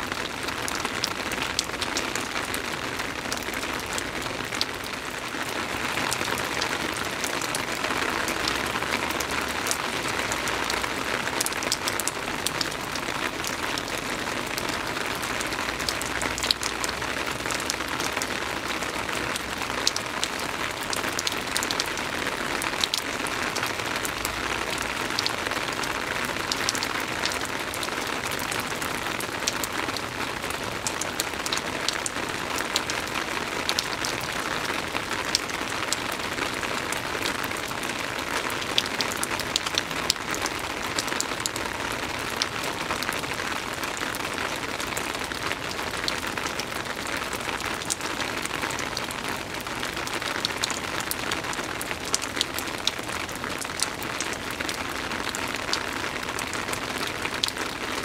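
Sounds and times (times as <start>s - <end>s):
soft rain falling: 0.0s - 58.0s.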